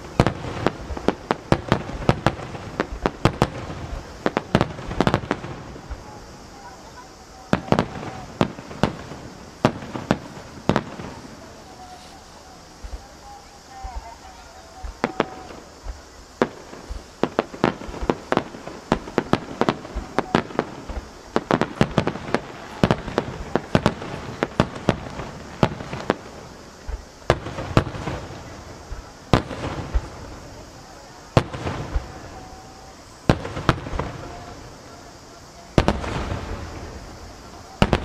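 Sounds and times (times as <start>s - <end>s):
firework shells bursting: 0.0s - 38.0s.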